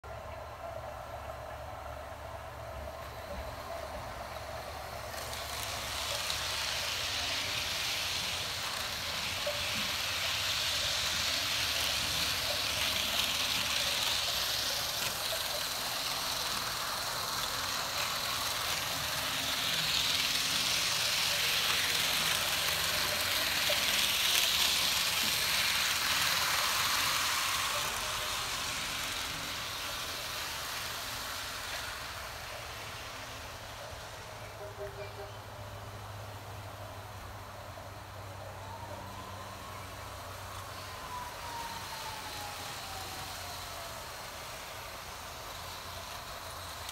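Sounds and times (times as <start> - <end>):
model train motor whirring: 0.0 - 46.9.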